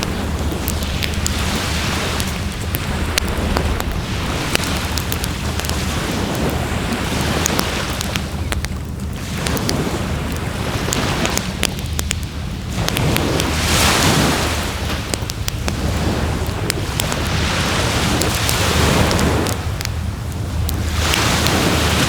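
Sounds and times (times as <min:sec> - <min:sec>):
surf: 0:00.0 - 0:22.0
wind: 0:00.0 - 0:22.0
wood fire crackling and popping: 0:00.0 - 0:22.0.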